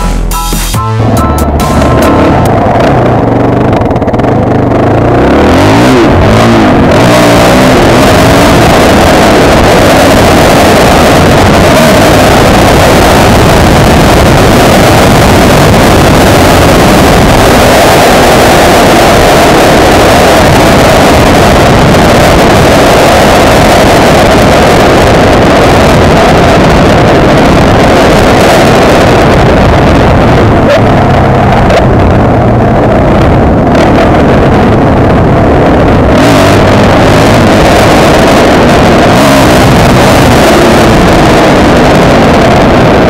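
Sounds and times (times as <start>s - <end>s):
motorcycle engine running: 0.0s - 43.0s
wind rushing: 1.5s - 43.0s.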